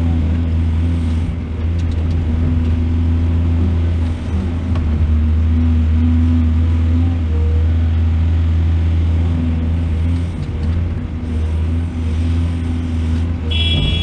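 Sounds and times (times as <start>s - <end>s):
excavator engine droning: 0.0s - 14.0s.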